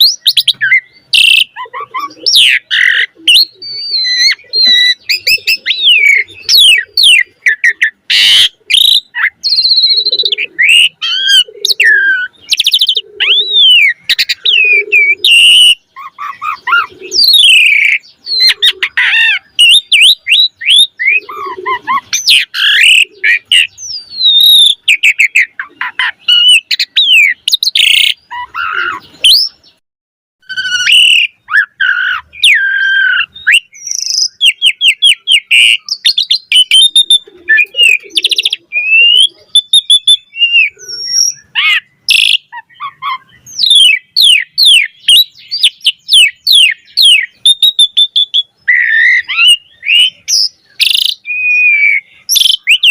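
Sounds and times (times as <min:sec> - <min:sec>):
starling singing: 0:00.0 - 0:29.8, 0:30.4 - 0:52.9.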